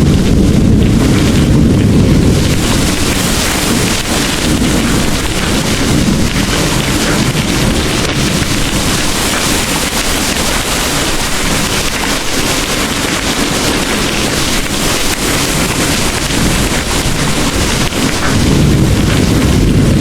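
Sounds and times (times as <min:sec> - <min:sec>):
distant thunder rumbling: 0:00.0 - 0:20.0
heavy rain pouring: 0:00.0 - 0:20.0.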